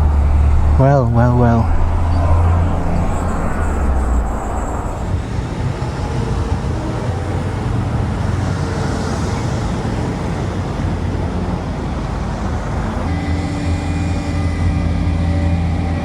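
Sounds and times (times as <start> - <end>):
road traffic noise: 0.0 - 16.0
vehicle engine running: 0.0 - 16.0.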